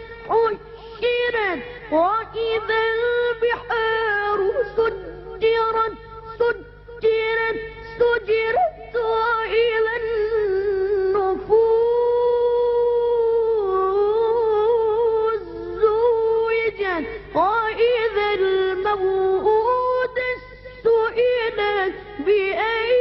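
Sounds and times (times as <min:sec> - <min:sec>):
child chanting melodic recitation: 0:00.0 - 0:23.0.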